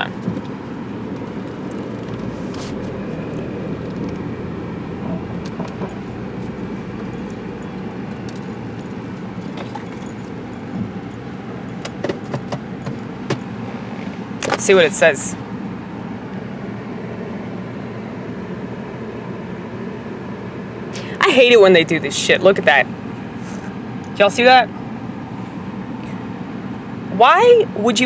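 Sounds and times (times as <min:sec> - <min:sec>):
car engine rumble inside cabin: 0:00.0 - 0:24.1.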